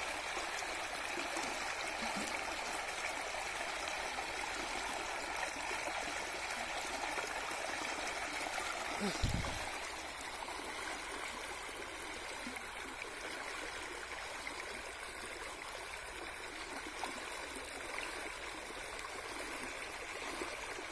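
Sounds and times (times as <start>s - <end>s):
stream rushing and babbling: 0.0s - 20.9s.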